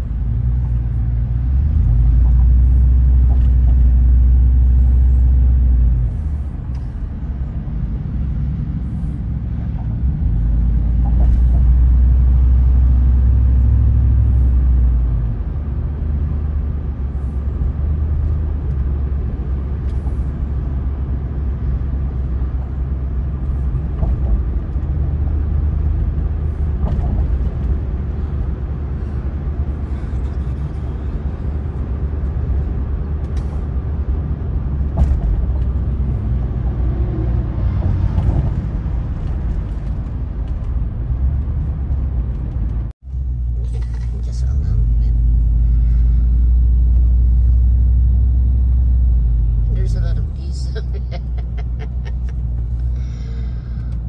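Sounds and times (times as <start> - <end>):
tyre and road noise in car: 0.0 - 54.0.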